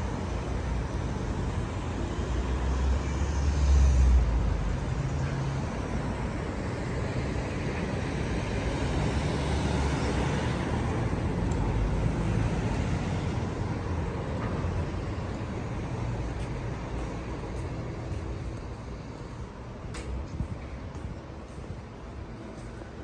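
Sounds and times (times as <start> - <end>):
street traffic driving past: 0.0 - 23.0.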